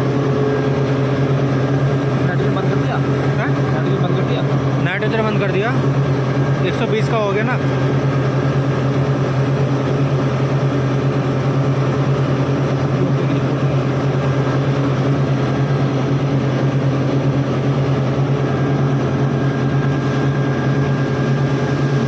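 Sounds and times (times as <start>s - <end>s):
machinery droning: 0.0s - 22.0s.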